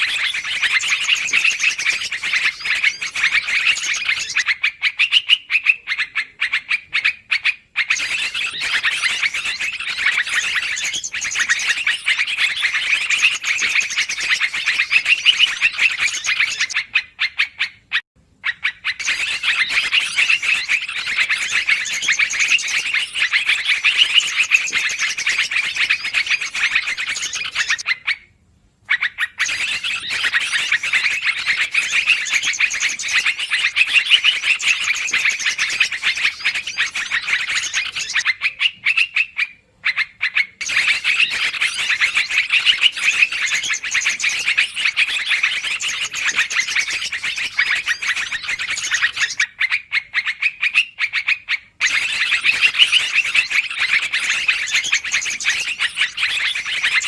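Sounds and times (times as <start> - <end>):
bulbuls chattering: 0.0 - 16.9, 18.5 - 27.8, 29.4 - 49.4.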